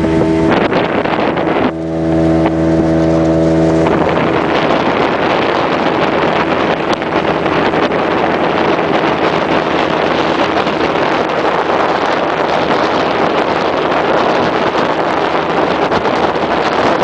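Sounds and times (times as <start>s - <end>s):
motorboat engine: 0.0s - 17.0s
wind and water rushing: 0.0s - 17.0s.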